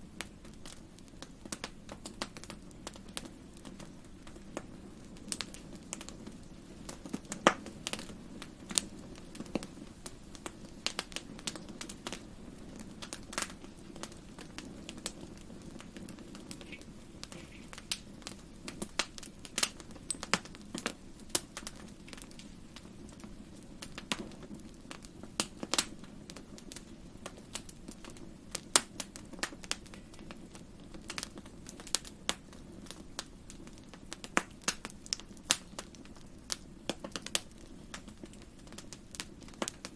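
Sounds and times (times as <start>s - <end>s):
campfire crackling and popping: 0.0s - 39.9s
low rush of fire: 0.0s - 39.9s.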